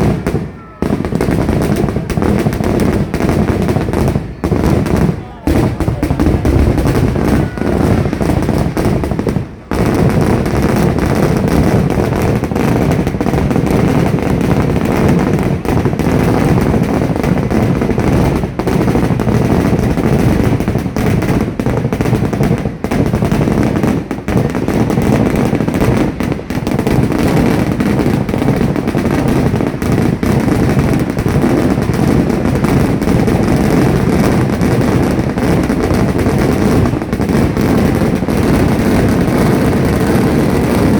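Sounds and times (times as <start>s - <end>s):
firecracker explosions: 0.0s - 40.9s.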